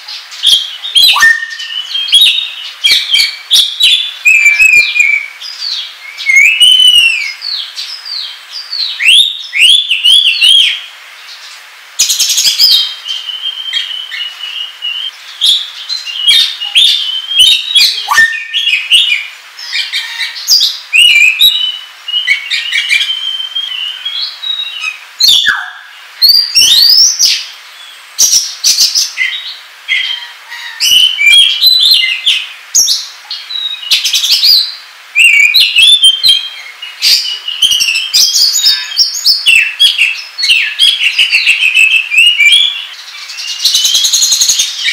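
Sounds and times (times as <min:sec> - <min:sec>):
songbird singing whistled phrases: 0:00.1 - 0:10.9, 0:12.0 - 0:27.5, 0:28.2 - 0:44.9.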